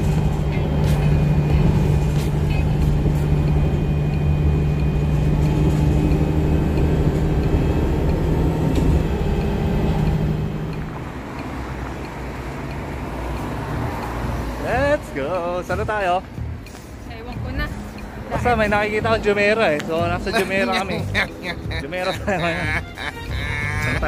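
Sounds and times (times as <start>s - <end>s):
bus engine hum and road noise: 0.0s - 24.0s.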